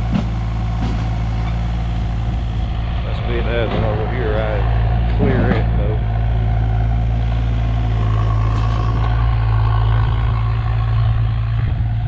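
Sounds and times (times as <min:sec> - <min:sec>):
excavator diesel engine running: 0:00.0 - 0:12.0
thin whine: 0:00.0 - 0:12.0.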